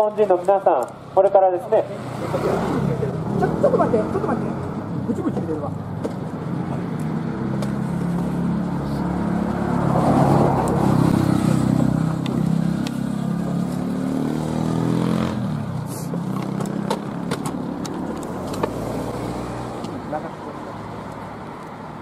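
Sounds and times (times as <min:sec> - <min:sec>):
vehicle engine passing by: 0:01.8 - 0:04.9, 0:06.4 - 0:21.4.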